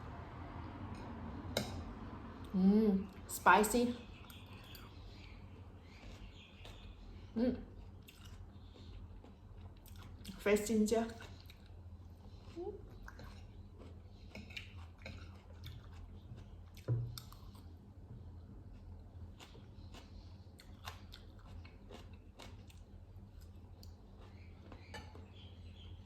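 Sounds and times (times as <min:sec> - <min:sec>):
steady low hum: 0:00.0 - 0:26.0
person chewing and crunching food: 0:04.3 - 0:10.4, 0:11.1 - 0:25.9.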